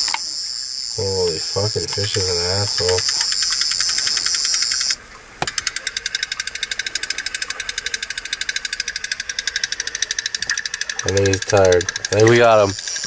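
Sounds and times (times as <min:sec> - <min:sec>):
fishing reel clicking: 0:01.6 - 0:13.0.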